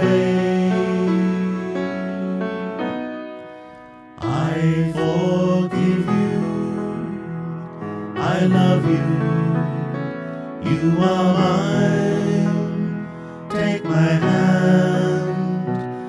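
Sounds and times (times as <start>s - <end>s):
person singing: 0.0s - 3.0s, 4.2s - 16.0s
grand piano chords: 0.0s - 16.0s.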